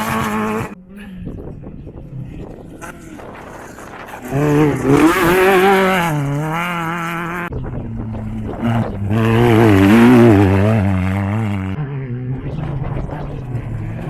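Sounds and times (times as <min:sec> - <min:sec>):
engine revving hard: 0:00.0 - 0:00.8, 0:02.8 - 0:14.0.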